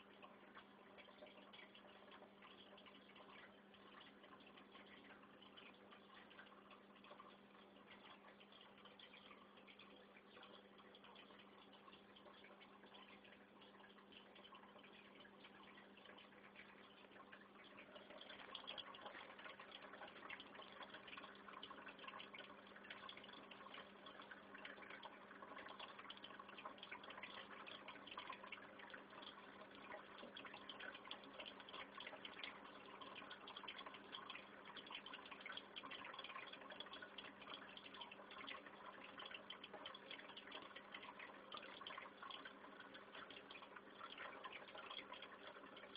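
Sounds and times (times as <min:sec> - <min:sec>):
aquarium filter humming: 0:00.0 - 0:45.9
bubbling trickling water: 0:00.0 - 0:45.9.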